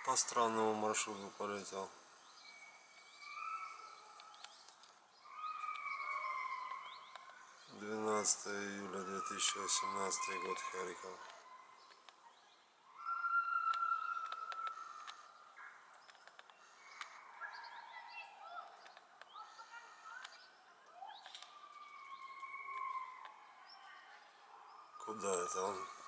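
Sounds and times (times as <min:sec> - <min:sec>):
birds chirping and whistling: 0:00.0 - 0:26.0.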